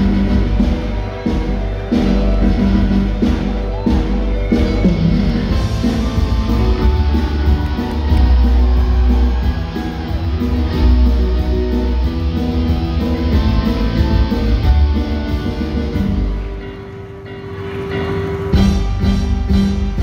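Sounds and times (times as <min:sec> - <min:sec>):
guitar music over heavy bass: 0:00.0 - 0:16.7.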